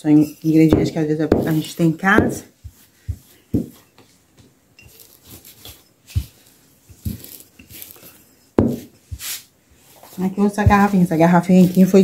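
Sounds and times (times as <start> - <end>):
dough rolling rubbing: 0.0 - 12.0.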